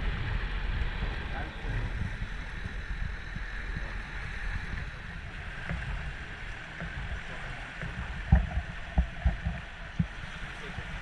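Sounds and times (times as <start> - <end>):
water rushing along a hull: 0.0 - 11.0
wind buffeting microphone: 0.0 - 11.0.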